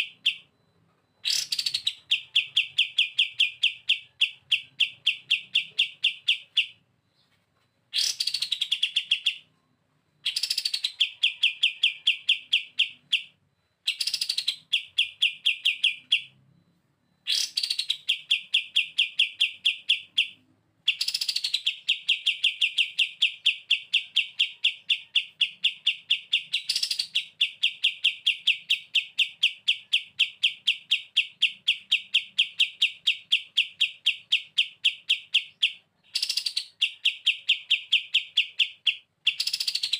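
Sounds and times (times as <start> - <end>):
songbird chattering trill: 1.2 - 9.5, 10.2 - 16.4, 17.2 - 39.9.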